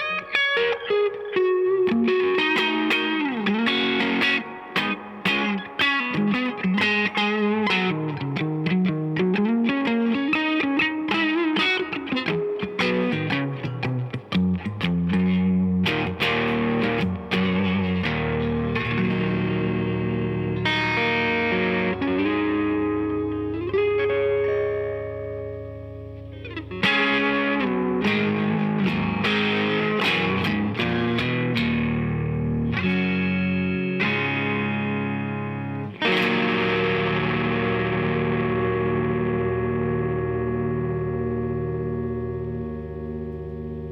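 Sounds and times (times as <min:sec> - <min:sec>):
electric guitar notes and chords: 0:00.0 - 0:43.9.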